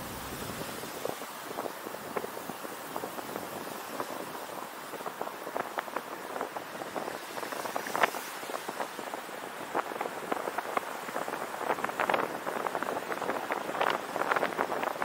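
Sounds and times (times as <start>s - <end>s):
car road and wind rush: 0.0s - 15.0s.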